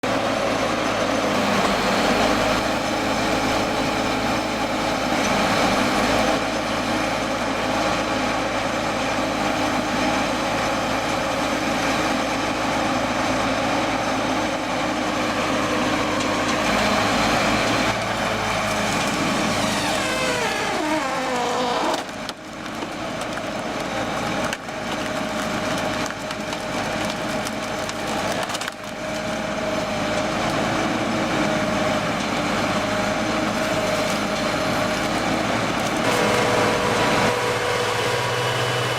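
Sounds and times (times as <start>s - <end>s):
wood chipper shredding wood: 0.0s - 38.9s.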